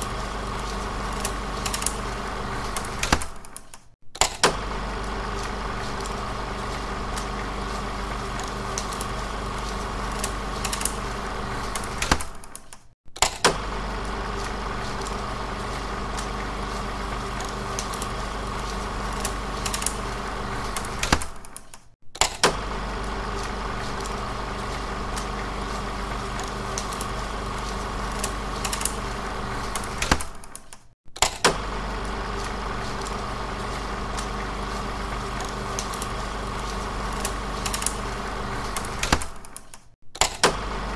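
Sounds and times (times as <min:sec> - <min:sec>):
film projector whirring: 0:00.0 - 0:40.9.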